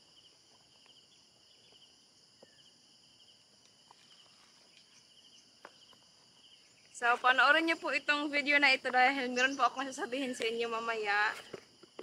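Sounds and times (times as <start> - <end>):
insect chorus chirping: 0.0 - 12.0.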